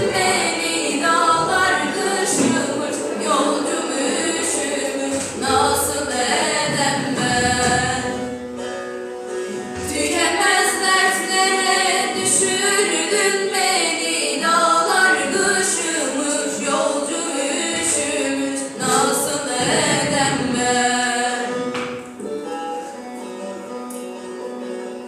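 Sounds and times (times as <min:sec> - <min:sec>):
women singing folk song: 0:00.0 - 0:08.8, 0:09.4 - 0:22.4.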